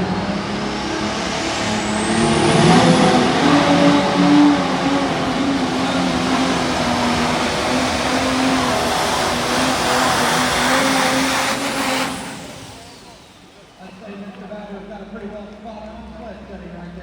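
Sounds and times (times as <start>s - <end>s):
diesel engine revving hard: 0.0s - 15.1s.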